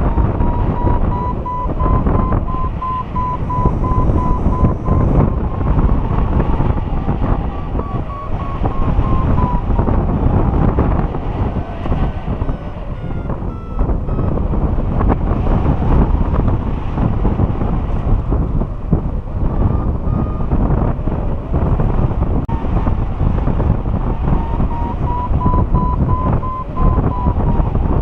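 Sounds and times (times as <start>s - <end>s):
variometer beeping: 0.0s - 16.4s, 19.4s - 21.7s, 24.1s - 28.0s
wind buffeting microphone: 0.0s - 28.0s.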